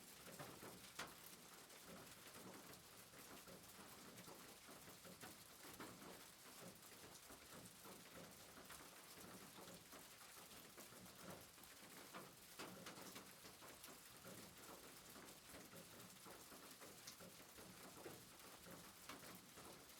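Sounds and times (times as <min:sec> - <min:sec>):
soft rain pattering: 0:00.0 - 0:19.9.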